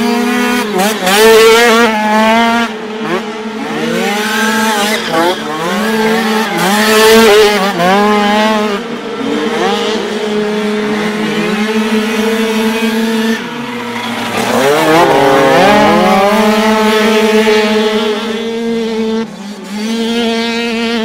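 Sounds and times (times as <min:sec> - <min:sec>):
dirt bikes revving past: 0:00.0 - 0:21.0
steady engine drone: 0:00.0 - 0:21.0.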